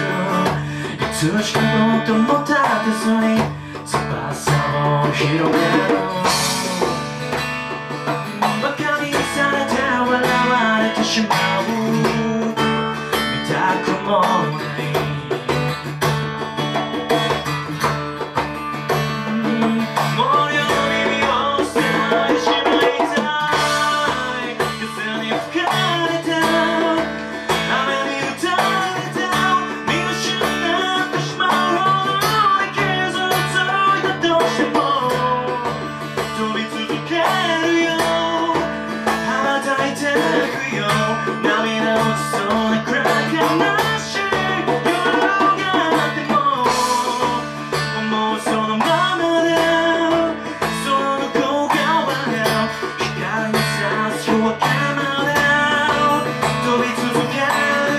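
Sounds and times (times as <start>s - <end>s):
acoustic guitar strummed: 0.0s - 57.9s
hand drum beat: 0.0s - 57.9s.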